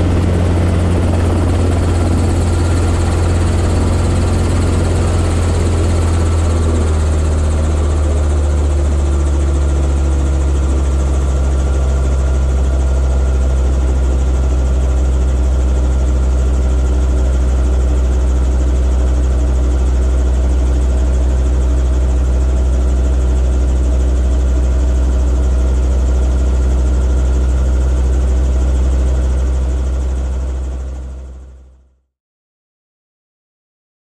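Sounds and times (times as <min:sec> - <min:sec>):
helicopter engine and rotor: 0:00.0 - 0:31.6.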